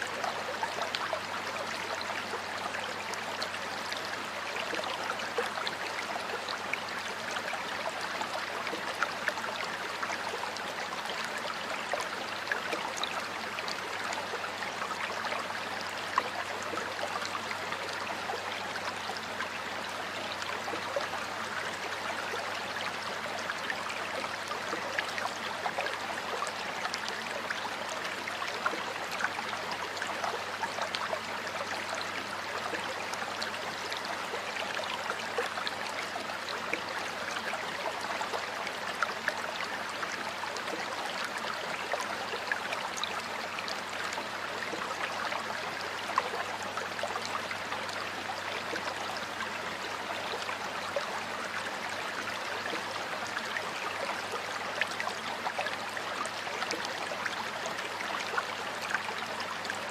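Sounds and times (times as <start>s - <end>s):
stream water running and splashing: 0.0s - 59.9s.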